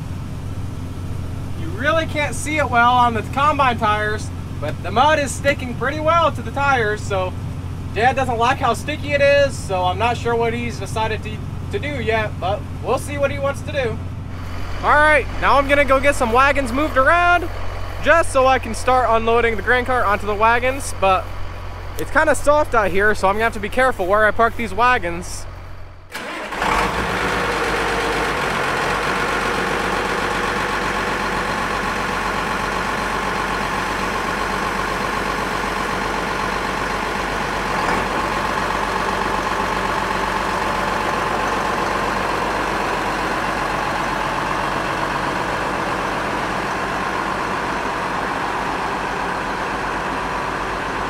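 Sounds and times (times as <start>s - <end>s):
tractor diesel engine idling: 0.0s - 51.0s.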